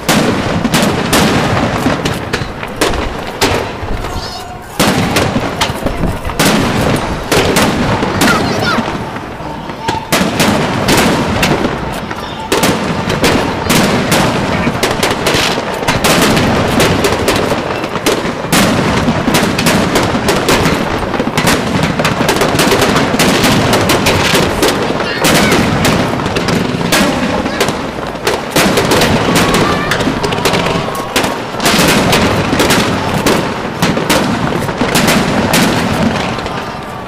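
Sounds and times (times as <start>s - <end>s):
fireworks bursting with bangs and crackles: 0.0s - 37.0s.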